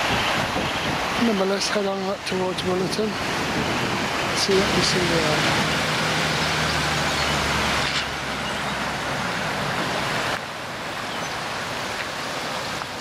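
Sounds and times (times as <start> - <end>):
car engine hum: 0.0 - 13.0
floodwater rushing in river: 0.0 - 13.0.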